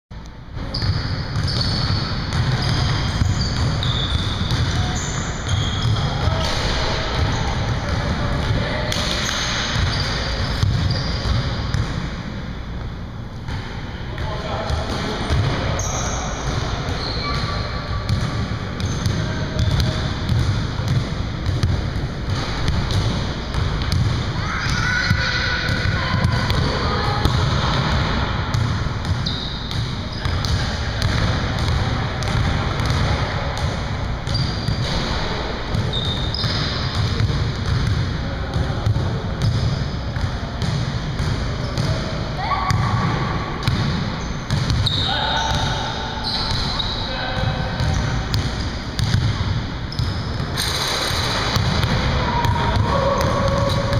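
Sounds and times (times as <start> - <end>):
sneaker squeaks: 0.6 - 8.1, 8.8 - 12.1, 14.9 - 38.0, 38.6 - 40.8, 41.6 - 53.9
basketballs bouncing on wooden floor: 0.7 - 12.1, 14.2 - 53.9
players' voices: 1.4 - 12.5, 13.4 - 53.9.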